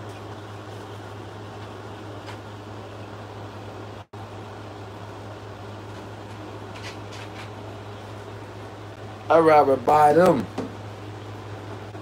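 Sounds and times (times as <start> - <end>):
fan humming with hiss: 0.0 - 12.0.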